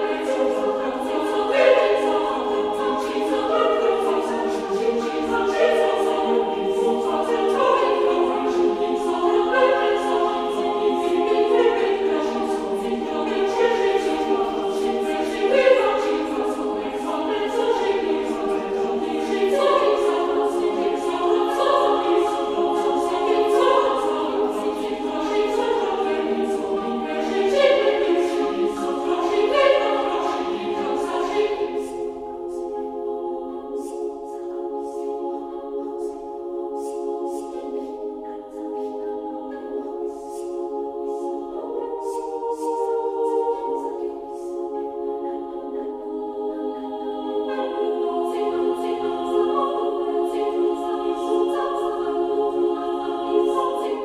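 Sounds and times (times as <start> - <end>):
choir singing sustained chords: 0.0 - 54.0.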